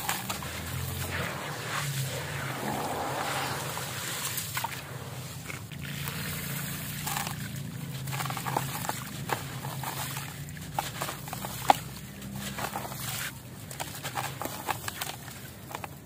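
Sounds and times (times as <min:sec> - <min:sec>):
water trickling and pouring: 0:00.0 - 0:14.4
wet grit crackling: 0:00.0 - 0:16.0.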